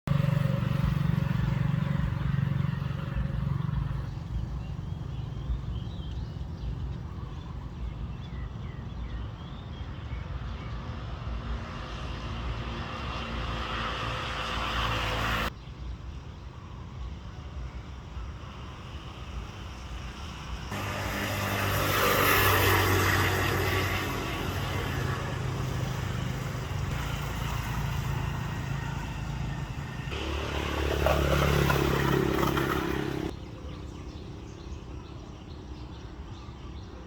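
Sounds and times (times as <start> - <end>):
passing vehicle rumble: 0.1 - 8.9, 10.3 - 15.5, 18.4 - 35.0.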